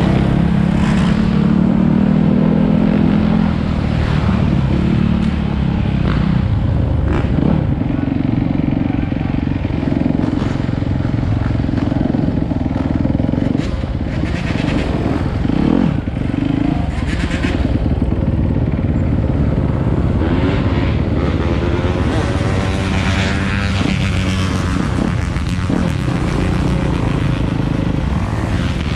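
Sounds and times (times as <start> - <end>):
dirt bike engines revving: 0.0 - 28.9.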